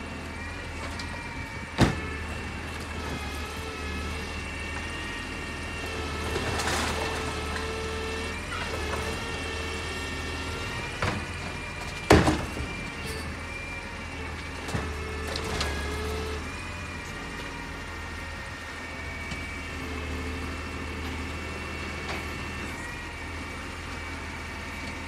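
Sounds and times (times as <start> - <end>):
garbage truck idling: 0.0 - 25.0
hydraulic arm whining: 0.0 - 25.0.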